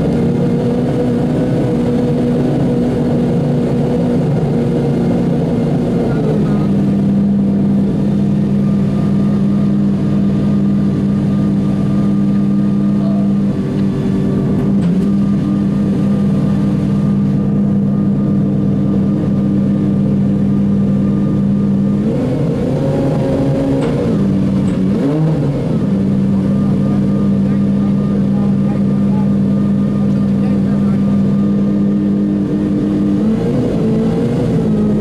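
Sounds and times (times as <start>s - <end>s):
car engine idling: 0.0s - 35.0s
engine revving: 0.0s - 35.0s.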